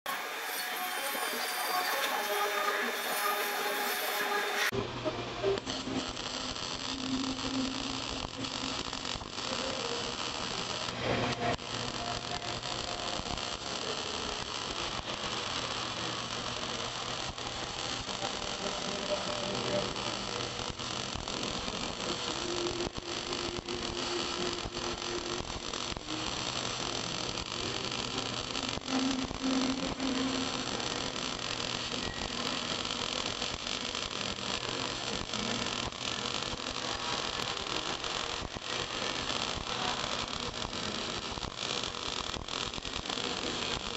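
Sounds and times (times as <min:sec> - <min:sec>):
welding arc crackling and hissing: 0:00.1 - 0:04.8, 0:05.5 - 0:43.9.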